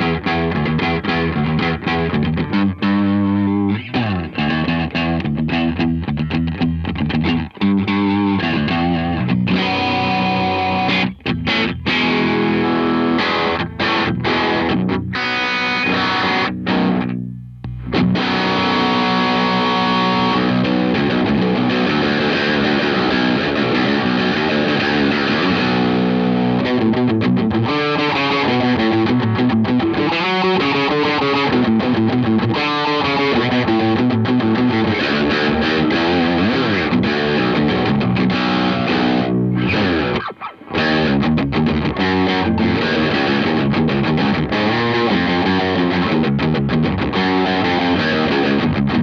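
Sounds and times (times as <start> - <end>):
distorted electric guitar chords: 0.0 - 49.0.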